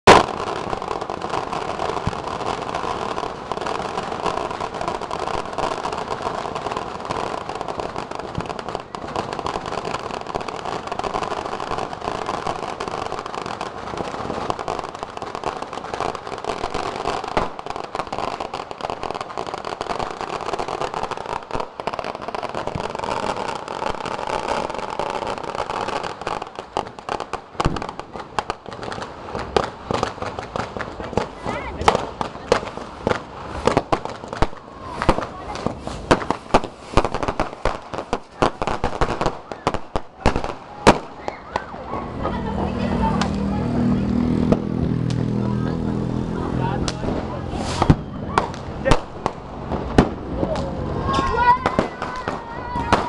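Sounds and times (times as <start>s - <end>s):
firecrackers crackling: 0.0s - 53.0s
loud single firecracker bangs: 0.1s - 45.7s, 46.6s - 53.0s.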